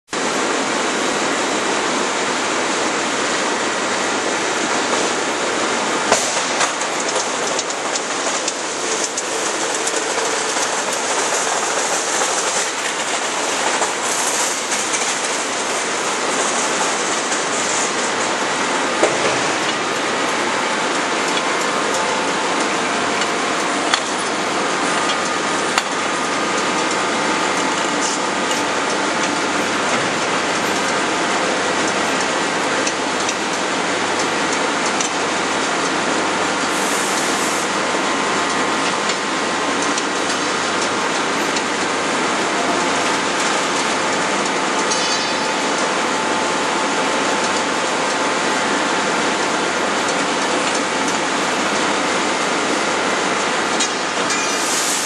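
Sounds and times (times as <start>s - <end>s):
machinery hiss and rumble: 0.1s - 55.0s.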